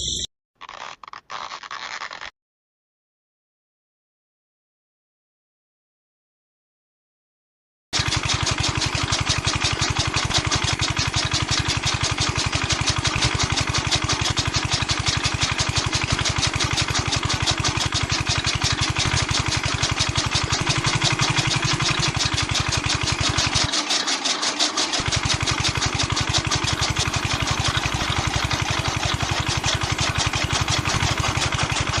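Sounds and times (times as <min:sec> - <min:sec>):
small motor running: 0:00.0 - 0:02.3, 0:08.0 - 0:32.0.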